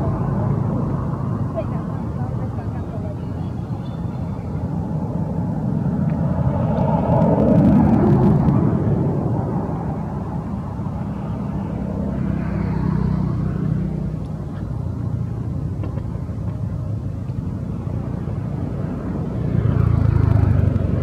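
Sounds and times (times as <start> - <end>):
motor vehicle engine hum: 0.0 - 21.0.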